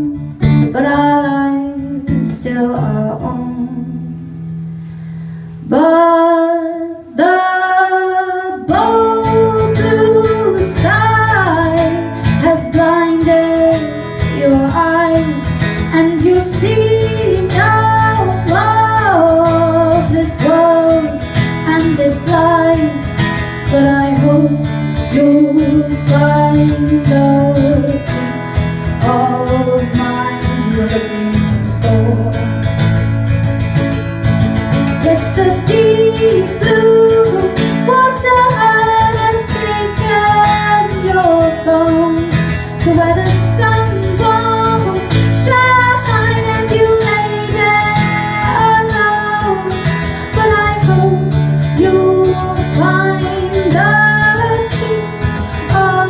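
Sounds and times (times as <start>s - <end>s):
woman singing: 0.0s - 4.2s, 5.6s - 32.9s, 34.7s - 56.0s
strummed acoustic guitar: 0.0s - 6.0s, 7.2s - 56.0s.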